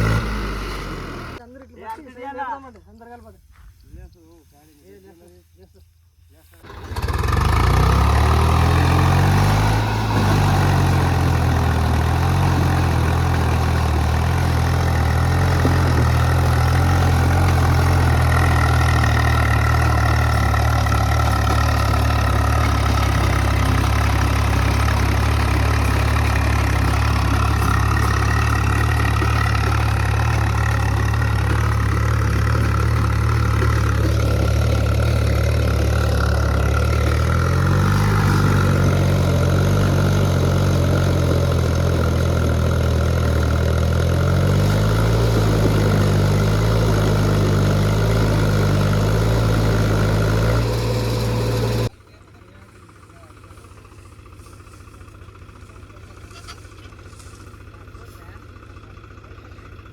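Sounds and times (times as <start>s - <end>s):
tractor diesel engine running: 0.0s - 1.4s, 6.5s - 59.9s.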